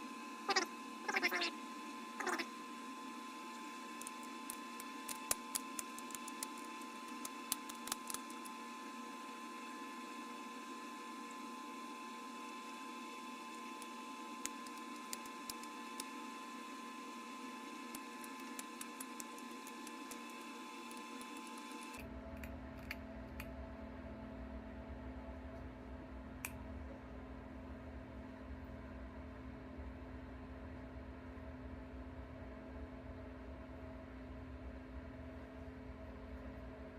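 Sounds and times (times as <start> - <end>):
electrical hum: 0.0 - 36.9.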